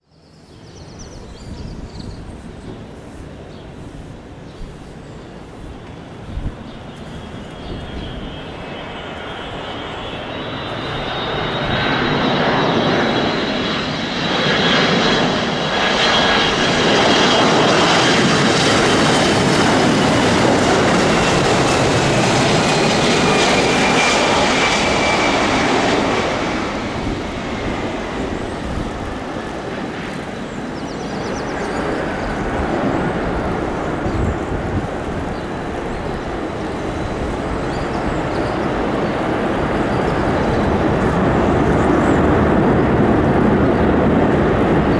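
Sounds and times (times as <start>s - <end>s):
jet engines passing with whine: 0.0s - 44.9s.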